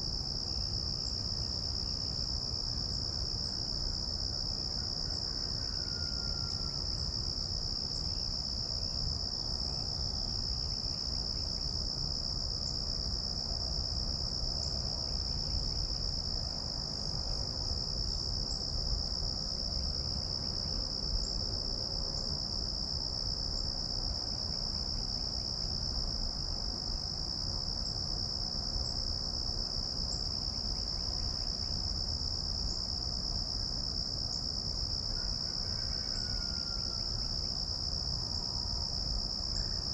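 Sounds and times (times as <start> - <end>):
insects high-pitched drone: 0.0 - 39.9.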